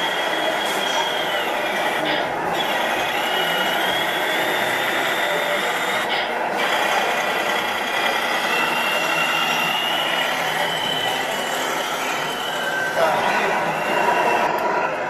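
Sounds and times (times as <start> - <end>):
toy truck motor whirring: 0.0 - 14.7.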